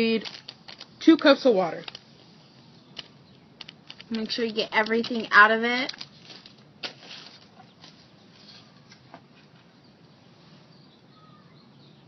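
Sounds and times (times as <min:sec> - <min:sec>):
faint rustling: 0:00.0 - 0:10.8.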